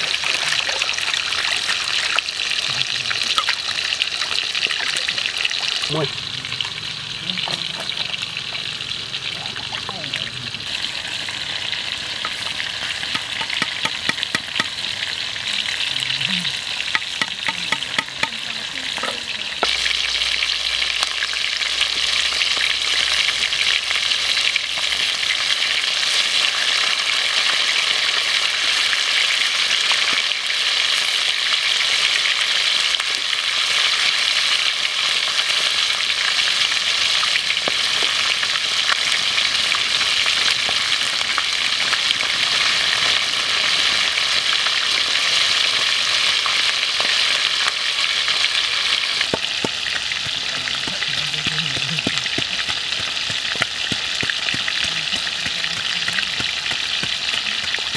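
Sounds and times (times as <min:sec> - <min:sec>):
deep-frying oil sizzle: 0:00.0 - 0:57.9
oil crackle with clicks: 0:00.0 - 0:57.9.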